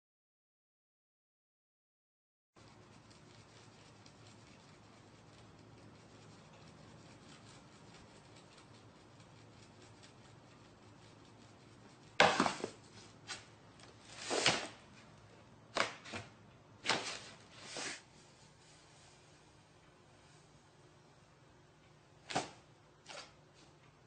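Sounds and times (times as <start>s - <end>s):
faint room hiss: 2.6s - 24.0s.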